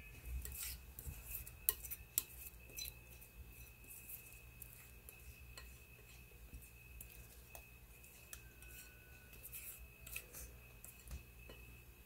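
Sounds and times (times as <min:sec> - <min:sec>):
spatula scraping a bowl: 0:00.0 - 0:11.7.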